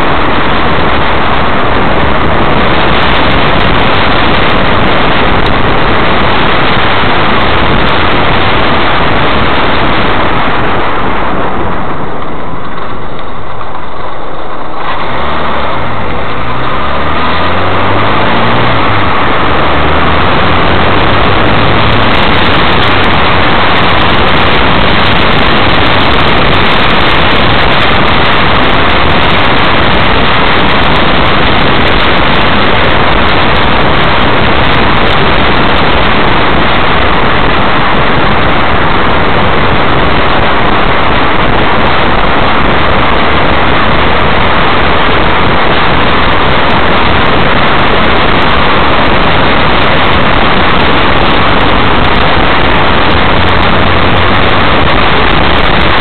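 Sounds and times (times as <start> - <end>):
low engine hum: 0.0 - 56.0
wind and road noise: 0.0 - 56.0.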